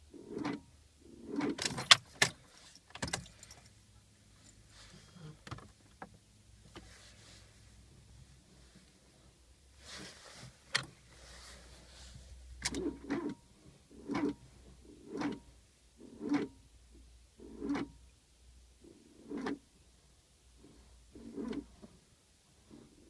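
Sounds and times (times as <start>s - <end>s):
car engine cranking slowly: 0.0s - 23.0s.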